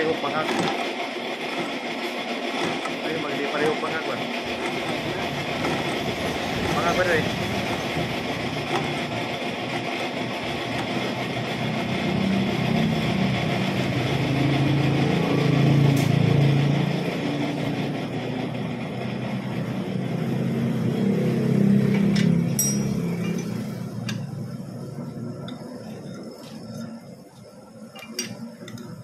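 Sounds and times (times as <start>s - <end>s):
metal lathe running: 0.0s - 29.0s.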